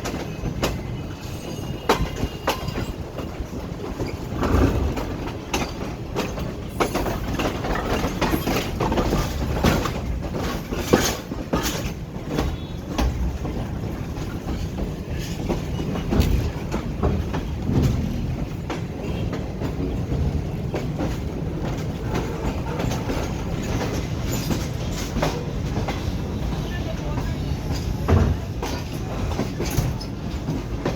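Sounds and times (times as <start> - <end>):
train wheels rumbling on rails: 0.0 - 30.9
wheels clattering over rail joints: 0.0 - 30.9.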